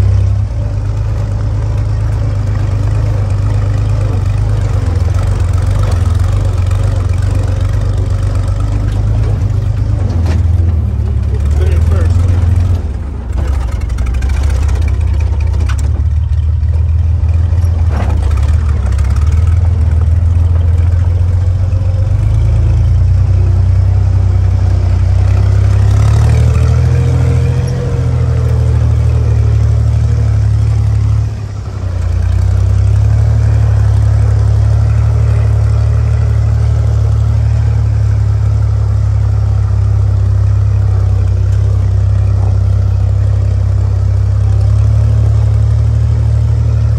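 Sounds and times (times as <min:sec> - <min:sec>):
jeep engine droning: 0:00.0 - 0:46.9.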